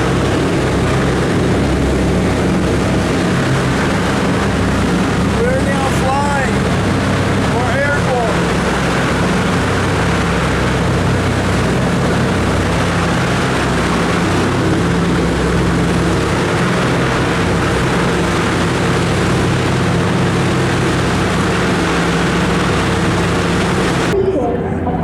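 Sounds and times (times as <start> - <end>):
propeller aircraft engines humming: 0.0 - 25.0
rushing cabin noise: 0.0 - 25.0.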